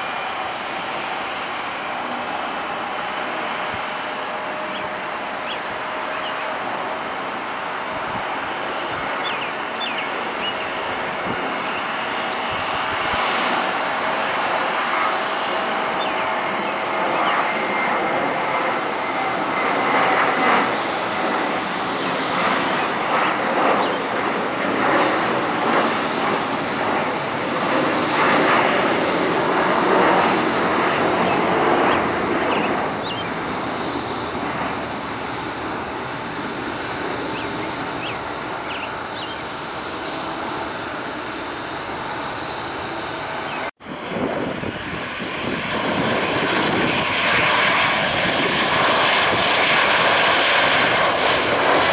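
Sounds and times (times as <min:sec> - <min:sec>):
jet airliner passing: 0:00.0 - 0:51.9.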